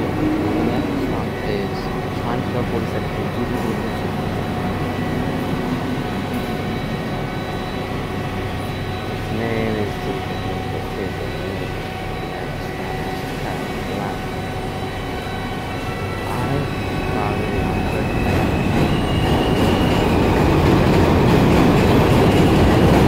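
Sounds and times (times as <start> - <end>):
steady tonal hum: 0.0 - 23.0
subway train rumble: 0.0 - 23.0.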